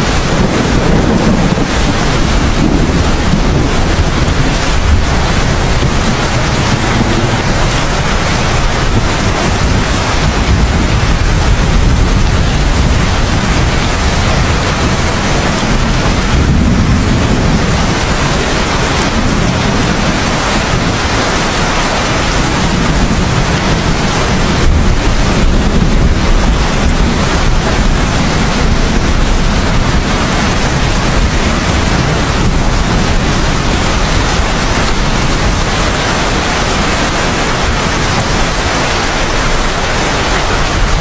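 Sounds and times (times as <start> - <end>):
deep rumble: 0.0 - 41.0
heavy rain: 0.0 - 41.0.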